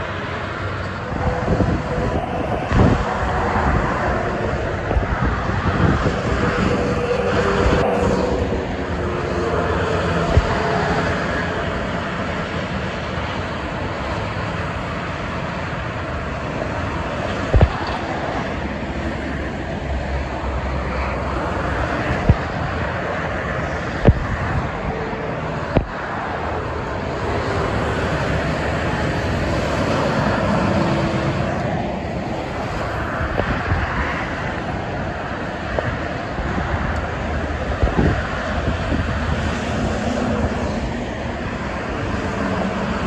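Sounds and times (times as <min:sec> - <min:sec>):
expressway traffic: 0:00.0 - 0:43.0.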